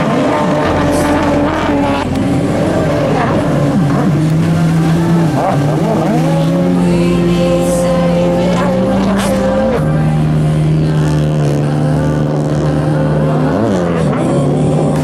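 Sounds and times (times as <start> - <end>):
jet ski engines at high revs: 0.0 - 15.0.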